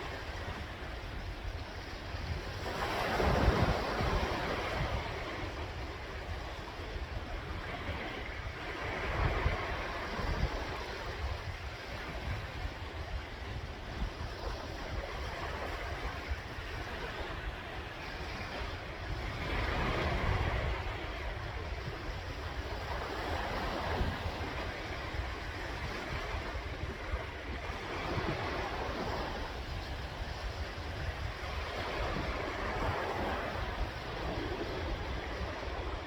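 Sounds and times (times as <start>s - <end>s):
sea waves washing onto shore: 0.0s - 36.0s
wind buffeting microphone: 0.0s - 36.0s.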